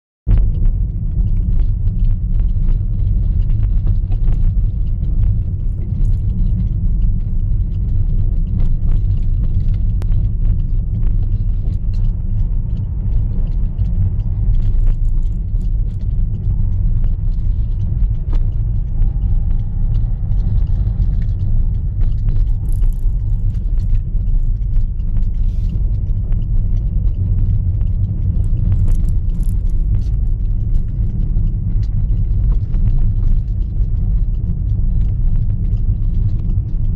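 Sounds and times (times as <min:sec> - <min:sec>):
car engine and tyres rumbling: 0:00.3 - 0:36.9
faint clicks and knocks: 0:00.3 - 0:36.9.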